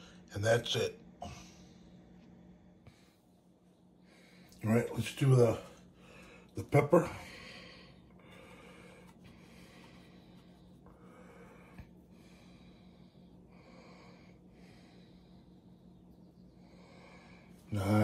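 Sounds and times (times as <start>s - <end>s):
faint breathing: 1.2s - 4.6s, 5.4s - 17.8s.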